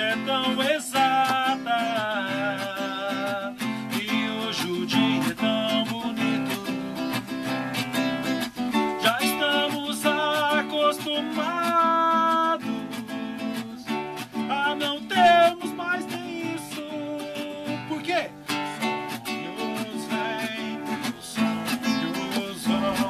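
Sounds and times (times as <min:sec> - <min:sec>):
acoustic guitar strumming: 0:00.0 - 0:23.0
man singing: 0:00.0 - 0:23.0.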